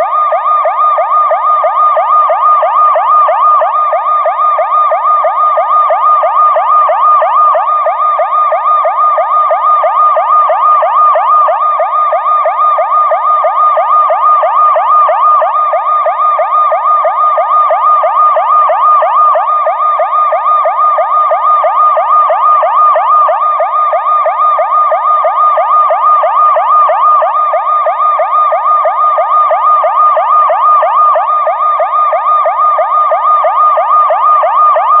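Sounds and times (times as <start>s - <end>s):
reversed police siren yelp: 0.0s - 35.0s.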